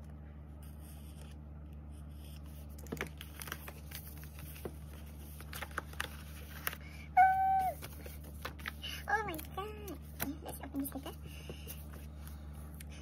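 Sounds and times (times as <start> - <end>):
steady low hum: 0.0 - 13.0
paper rustling: 2.1 - 12.6.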